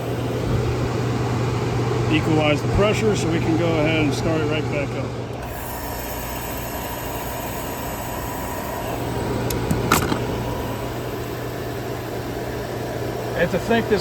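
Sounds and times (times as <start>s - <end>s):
fan noise: 0.0s - 14.0s
heat pump humming: 0.0s - 14.0s.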